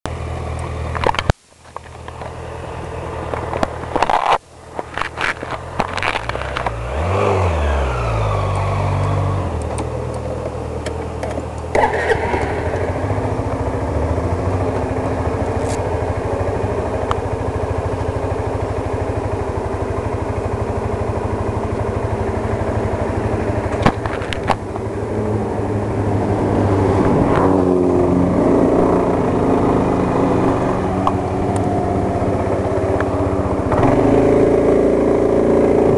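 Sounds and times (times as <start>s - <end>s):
scooter engine idling and revving: 0.1s - 35.9s.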